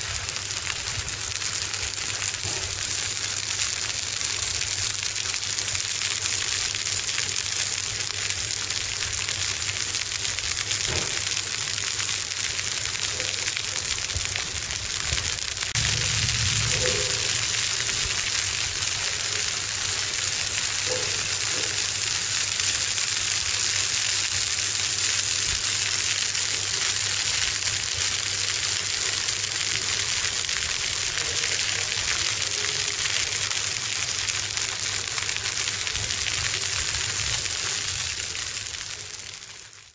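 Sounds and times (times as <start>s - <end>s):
fish sizzling on a griddle: 0.0s - 39.9s.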